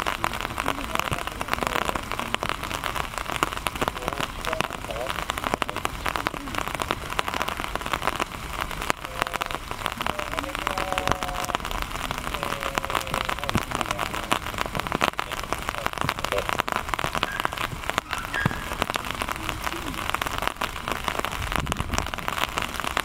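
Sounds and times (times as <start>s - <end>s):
raindrops ticking close by: 0.0s - 23.0s
steady rain falling: 0.0s - 23.0s.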